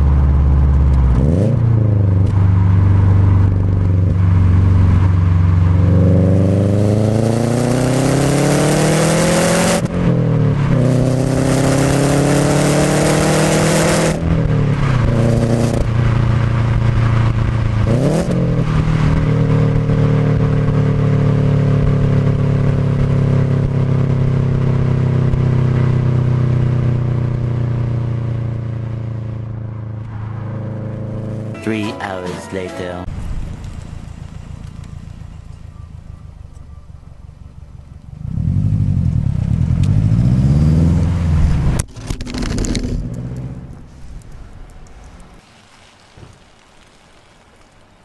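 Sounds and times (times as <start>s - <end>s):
car engine accelerating hard: 0.0s - 31.6s, 33.1s - 43.9s.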